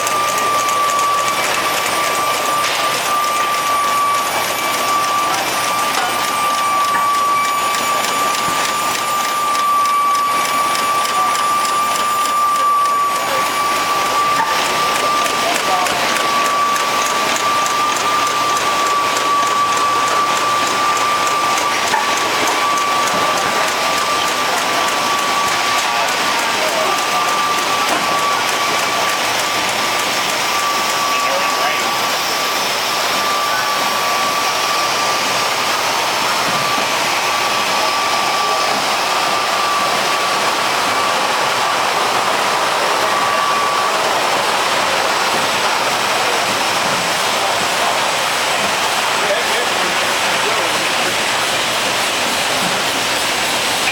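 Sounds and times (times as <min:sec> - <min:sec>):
high-pitched machine whine: 0:00.0 - 0:53.9.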